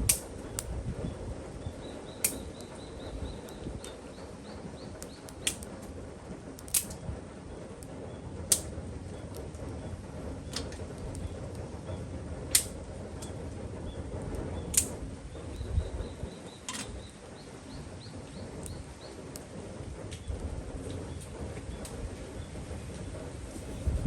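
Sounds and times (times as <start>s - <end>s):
campfire burning: 0.0s - 24.0s
fire crackling pops: 0.0s - 24.0s.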